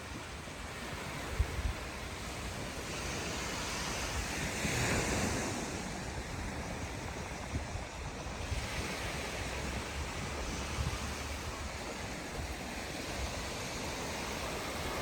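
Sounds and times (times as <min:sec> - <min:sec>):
surf washing onto beach: 0:00.0 - 0:15.0
wind rumbling on microphone: 0:00.0 - 0:15.0.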